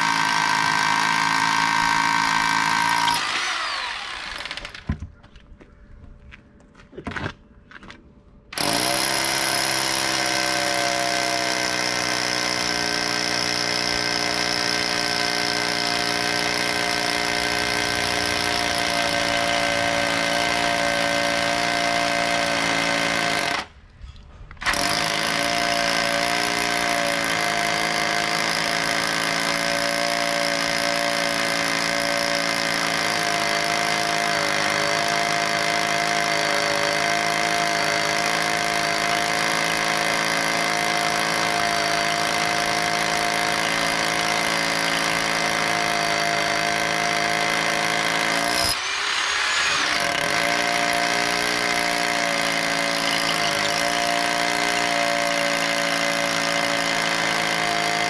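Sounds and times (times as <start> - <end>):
rotary hammer drilling into concrete: 0.0 - 4.9, 8.6 - 23.7, 24.6 - 58.0.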